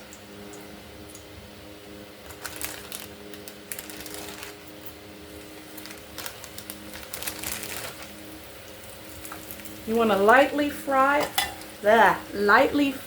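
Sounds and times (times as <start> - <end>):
oil crackling and sizzling: 0.0 - 13.0
steady hum: 0.0 - 13.0.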